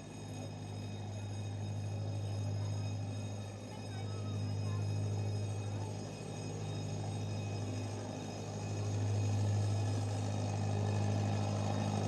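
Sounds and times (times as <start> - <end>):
train engine humming: 0.0 - 12.0.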